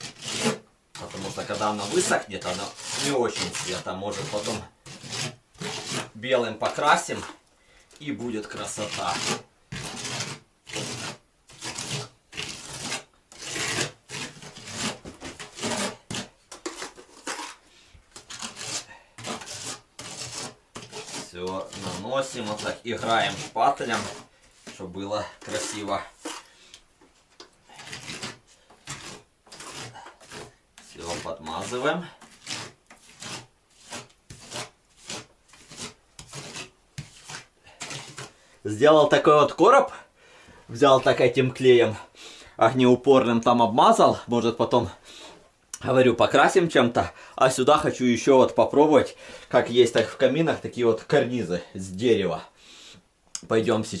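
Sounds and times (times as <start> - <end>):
spatula scraping plaster: 0.0 - 39.6, 46.3 - 51.9.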